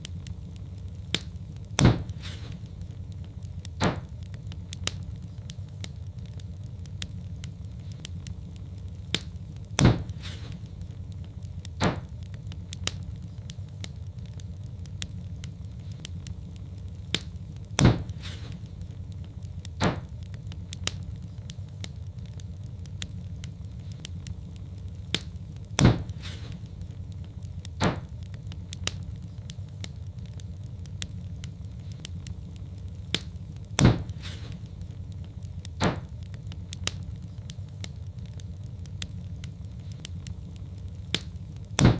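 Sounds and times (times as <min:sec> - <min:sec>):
fire crackling: 0:00.0 - 0:41.9
fire low rumble: 0:00.0 - 0:41.9
loud fire pops: 0:00.0 - 0:41.9.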